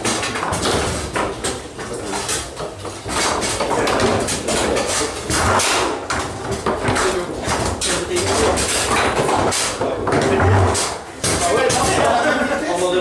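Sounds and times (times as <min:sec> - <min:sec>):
foosball ball clacking: 0:00.0 - 0:12.3.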